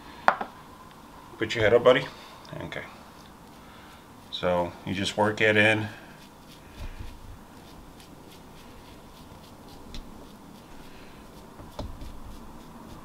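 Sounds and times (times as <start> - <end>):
brush strokes in hair: 2.6 - 13.0.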